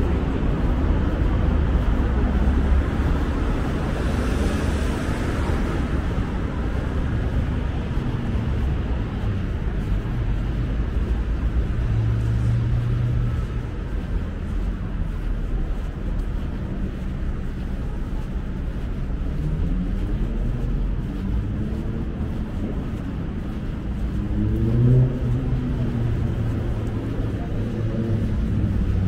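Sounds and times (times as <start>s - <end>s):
traffic engines rumbling: 0.0s - 29.0s.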